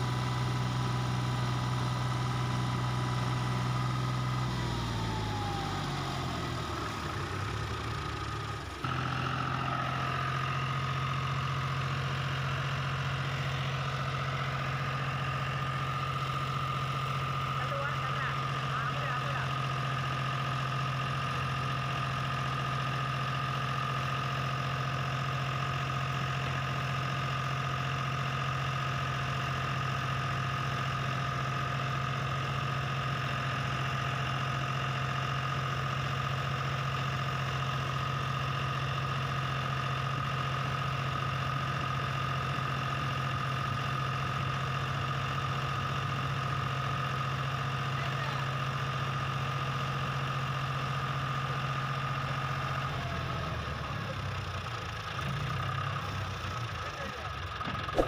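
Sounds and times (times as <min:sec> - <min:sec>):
diesel engine running with whine: 0:00.0 - 0:58.0.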